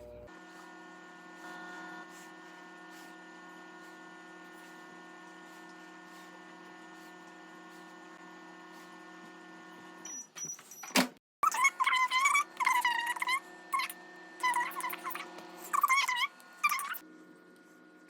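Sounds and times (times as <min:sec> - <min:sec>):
microwave oven humming: 0:00.0 - 0:10.9, 0:11.5 - 0:18.0.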